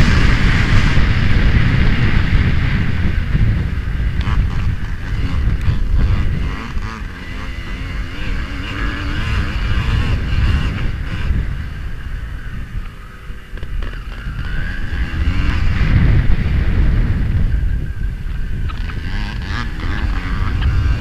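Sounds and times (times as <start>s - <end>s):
motorcycle engine revving: 0.0s - 21.0s
wind buffeting microphone: 0.0s - 21.0s.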